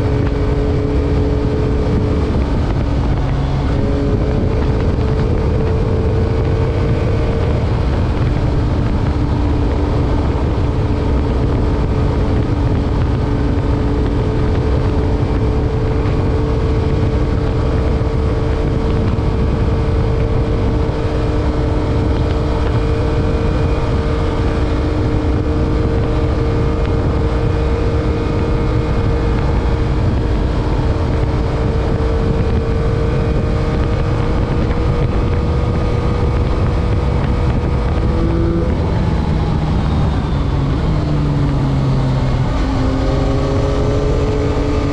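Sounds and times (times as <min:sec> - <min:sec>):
motorcycle engine cruising: 0:00.0 - 0:44.9
wind buffeting microphone: 0:00.0 - 0:44.9.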